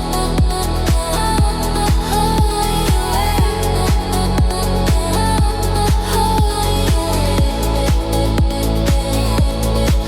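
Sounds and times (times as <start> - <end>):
electronic dance music: 0.0 - 10.0
kick drum: 0.0 - 10.0.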